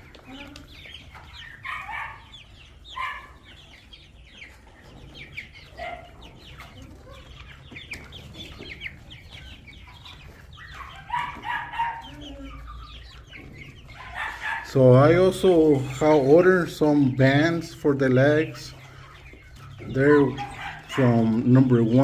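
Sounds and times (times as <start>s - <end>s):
young chickens clucking and peeping: 0.0s - 22.0s.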